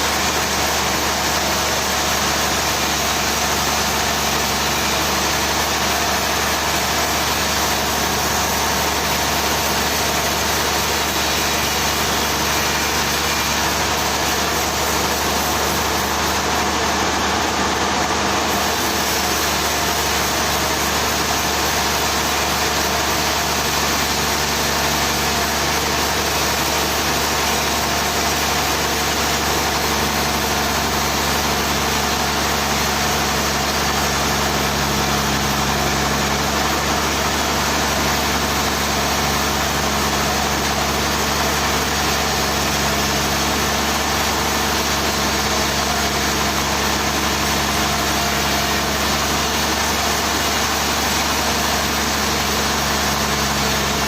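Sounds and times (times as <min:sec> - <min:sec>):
machinery engine running: 0:00.0 - 0:54.0.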